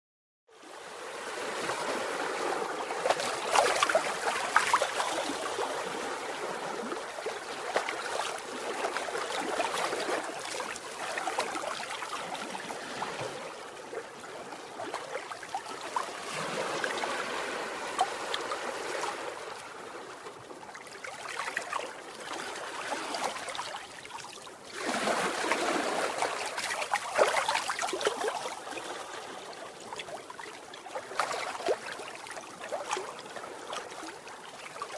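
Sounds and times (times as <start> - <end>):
ocean waves breaking on shore: 0.5 - 34.9.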